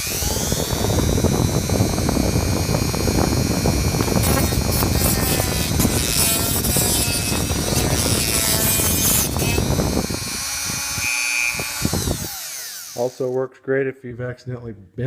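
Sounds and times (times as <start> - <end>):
grinding on steel: 0.0 - 13.4
rotary tool whine: 0.0 - 13.4.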